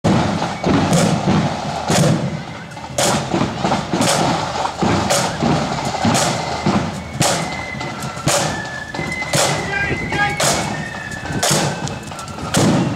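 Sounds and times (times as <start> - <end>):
heavy drum strokes: 0.0 - 12.9
side drums rattling: 0.0 - 12.9.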